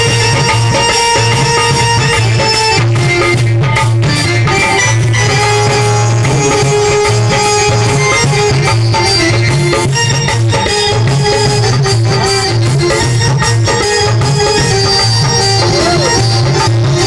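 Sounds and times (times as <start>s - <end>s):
drumming: 0.0s - 17.0s
loud music with held tones: 0.0s - 17.0s.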